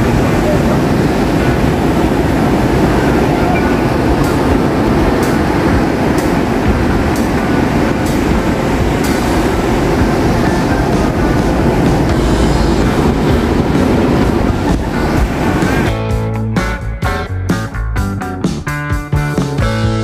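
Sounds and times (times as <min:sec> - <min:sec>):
wind on microphone: 0:00.0 - 0:16.1
surf rumbling: 0:00.0 - 0:17.8.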